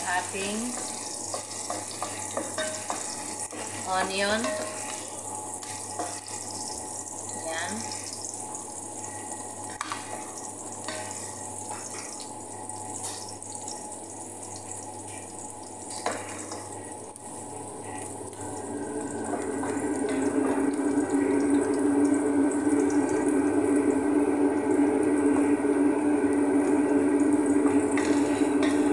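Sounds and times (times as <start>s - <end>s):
onions sizzling in a pot: 0.0s - 28.9s.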